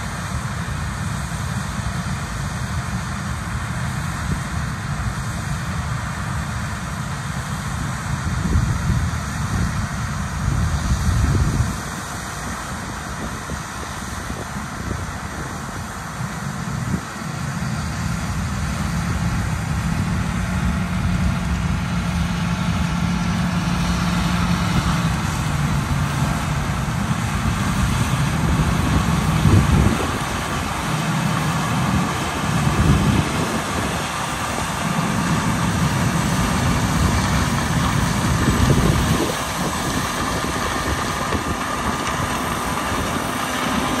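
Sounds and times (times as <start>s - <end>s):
diesel engines droning: 0.0s - 44.0s.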